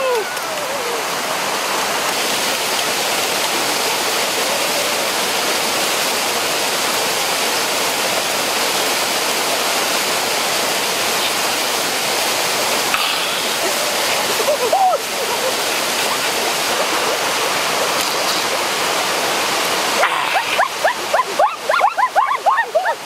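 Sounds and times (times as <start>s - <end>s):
waterfall pouring over rocks: 0.0s - 23.0s.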